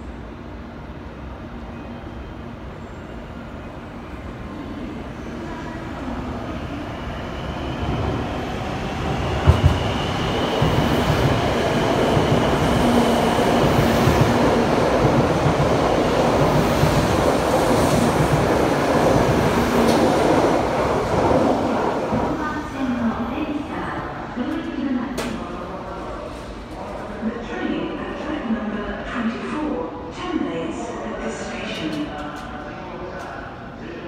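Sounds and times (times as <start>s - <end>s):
train rumble and rail noise: 0.0s - 34.0s.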